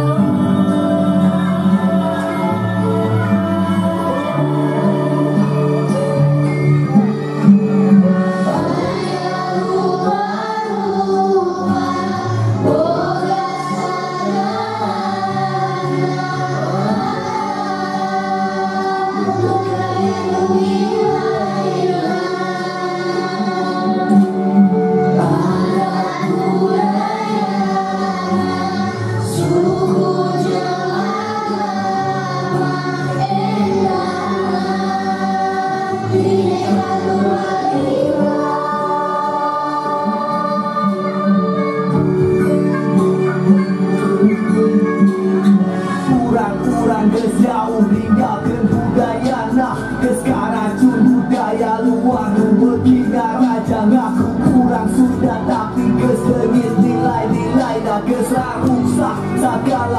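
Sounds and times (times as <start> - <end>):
children singing: 0.0 - 59.9
instrumental music accompaniment: 0.0 - 59.9.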